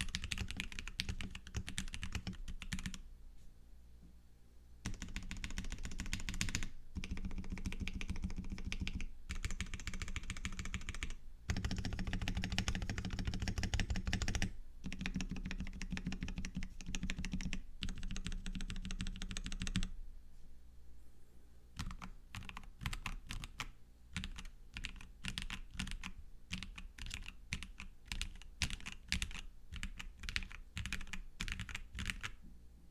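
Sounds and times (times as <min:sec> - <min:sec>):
mechanical keyboard typing: 0:00.0 - 0:03.0, 0:04.9 - 0:19.9, 0:21.8 - 0:32.4.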